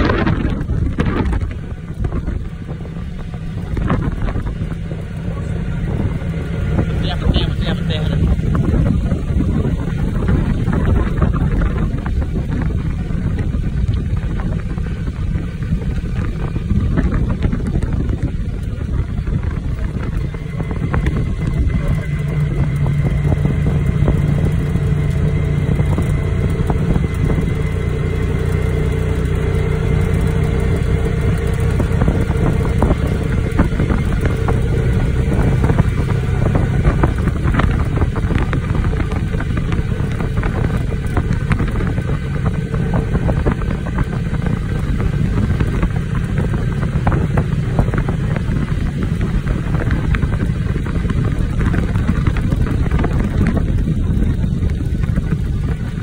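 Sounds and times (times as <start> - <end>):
low engine hum: 0.0 - 56.0
wind buffeting microphone: 0.0 - 56.0.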